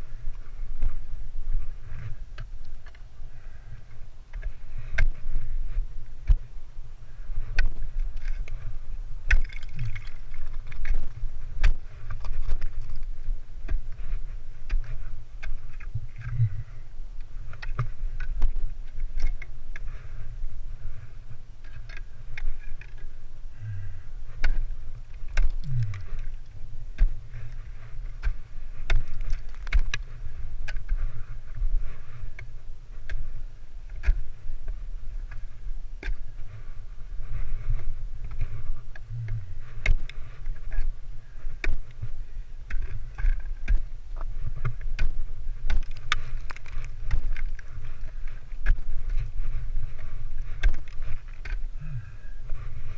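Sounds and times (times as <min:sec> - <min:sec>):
steady low rumble: 0:00.0 - 0:52.9.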